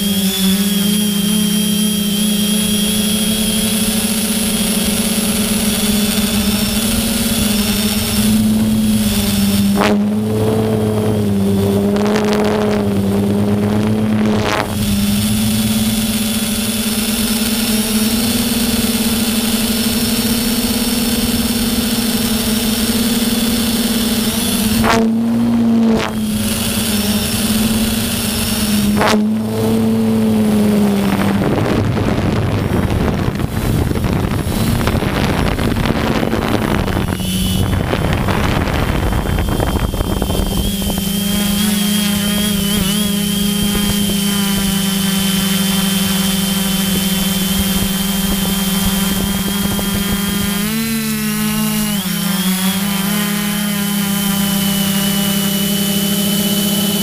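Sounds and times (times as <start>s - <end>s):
wind noise: 0.0s - 53.0s
electric motor and propeller whine: 0.0s - 57.0s.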